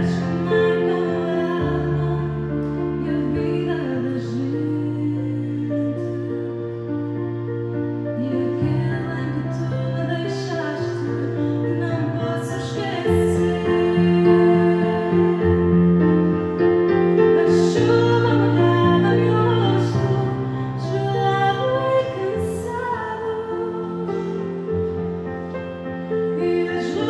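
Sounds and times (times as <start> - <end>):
woman singing: 0.0 - 6.7, 8.2 - 25.1, 26.1 - 27.0
gentle digital piano chords: 0.0 - 27.0.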